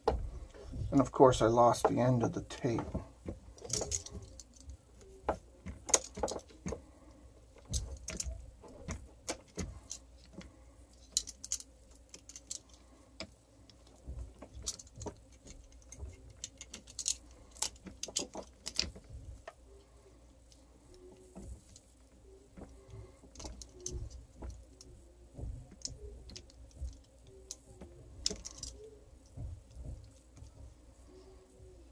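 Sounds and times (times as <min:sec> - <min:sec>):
clicks and rustles of wires: 0:00.0 - 0:31.9.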